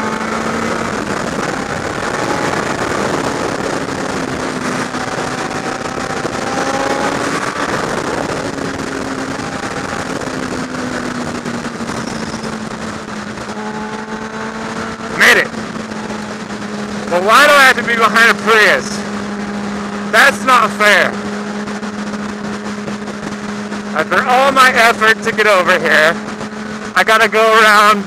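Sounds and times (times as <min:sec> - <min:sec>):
heavy wind rush: 0:00.0 - 0:28.0
motorcycle engine running: 0:00.0 - 0:28.0.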